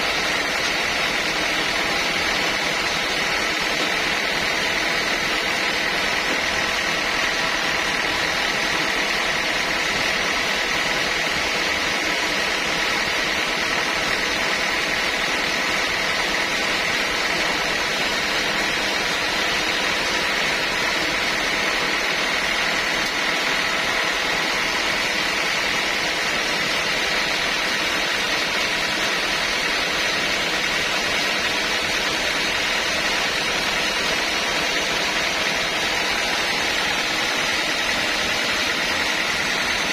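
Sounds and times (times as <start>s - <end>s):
machine noise: 0.0s - 39.9s
sawmill saw whining: 0.0s - 39.9s.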